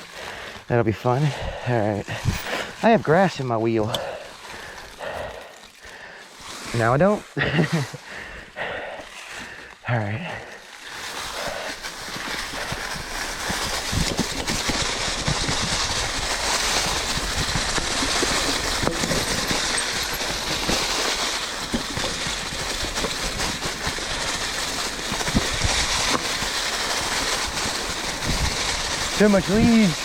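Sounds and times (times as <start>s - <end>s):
bike tyres on dirt trail: 0.0s - 30.0s.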